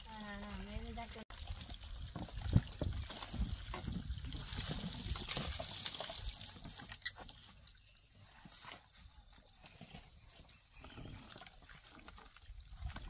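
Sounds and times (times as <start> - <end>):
water sloshing in a plastic basin: 0.4 - 13.0.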